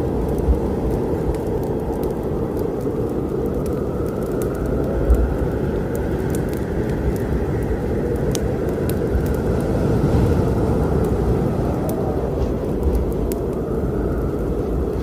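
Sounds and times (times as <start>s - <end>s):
low storm rumble: 0.0s - 15.0s
wood fire crackling: 0.0s - 15.0s.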